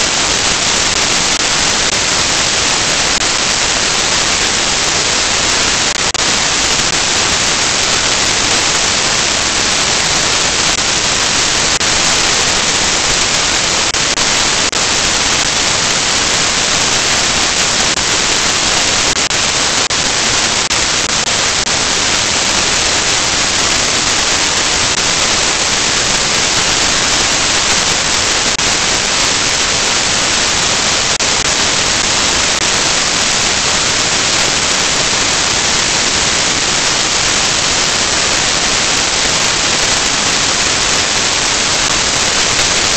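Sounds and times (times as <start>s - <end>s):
loud static hiss: 0.0s - 42.9s.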